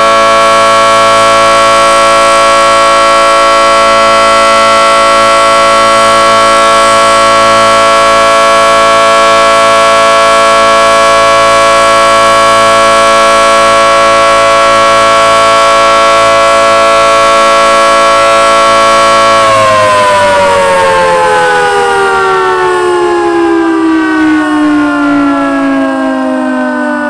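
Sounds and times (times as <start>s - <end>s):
emergency warning siren: 0.0s - 27.0s.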